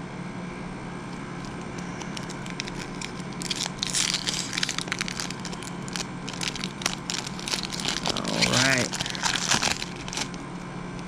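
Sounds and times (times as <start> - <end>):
steady low hum: 0.0 - 11.0
foil wrapper crinkling and tearing: 1.1 - 10.7.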